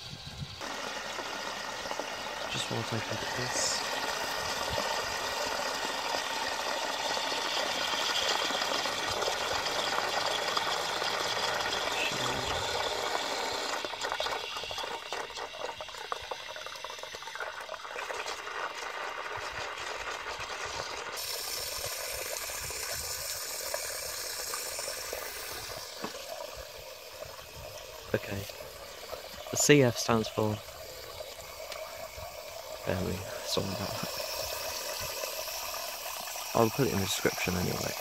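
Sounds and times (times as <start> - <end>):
water rushing into cistern: 0.0 - 38.0.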